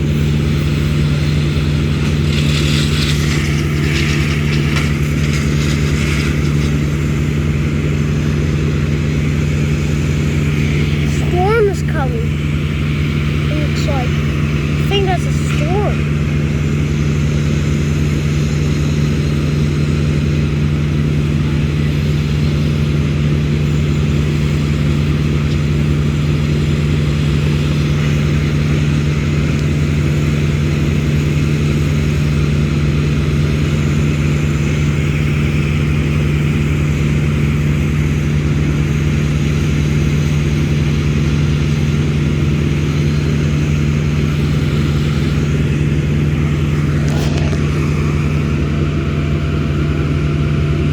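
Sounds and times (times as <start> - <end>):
engine humming: 0.0 - 50.9.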